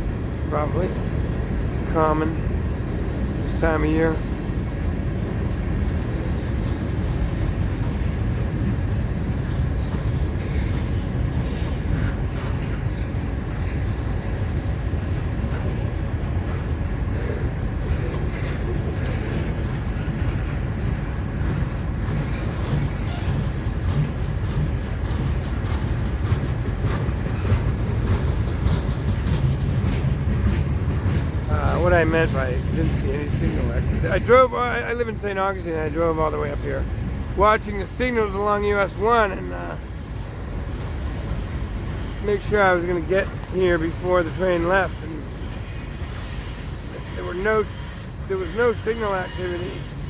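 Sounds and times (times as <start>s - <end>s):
freight train cars rolling: 0.0s - 50.0s.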